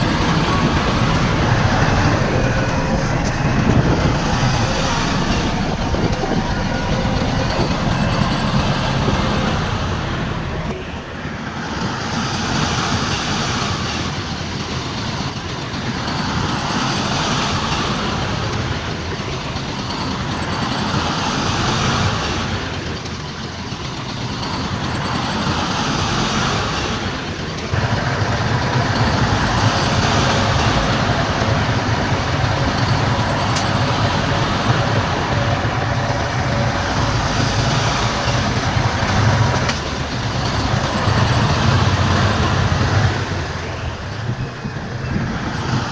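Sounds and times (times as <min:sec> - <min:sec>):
heavy machinery diesel engines: 0:00.0 - 0:45.9.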